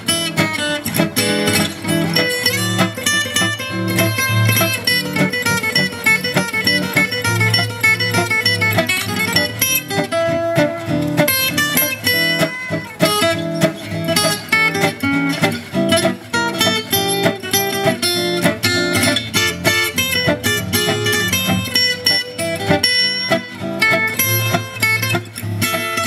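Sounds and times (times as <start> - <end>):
acoustic jazz guitars playing: 0.0 - 26.0.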